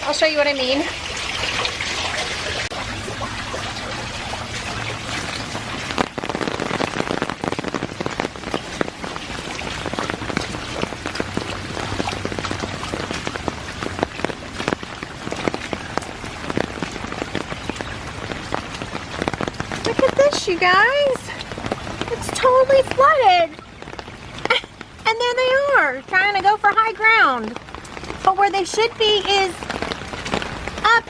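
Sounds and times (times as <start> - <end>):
heavy rain falling: 0.0 - 31.0
sharp raindrop impacts: 0.0 - 31.0.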